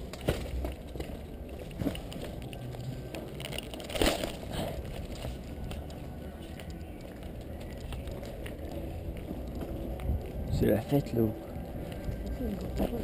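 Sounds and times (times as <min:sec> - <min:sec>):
light footsteps clicks: 0:00.0 - 0:13.0.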